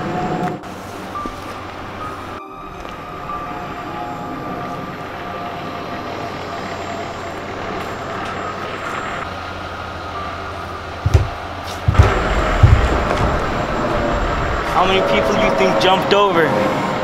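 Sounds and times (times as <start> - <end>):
road traffic rumble and hum: 0.0 - 17.0.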